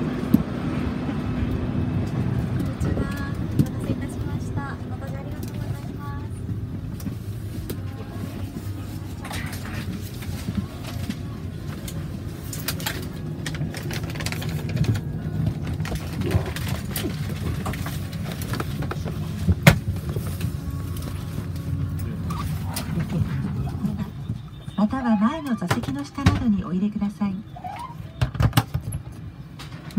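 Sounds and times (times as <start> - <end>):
airliner cabin hum: 0.0 - 29.9.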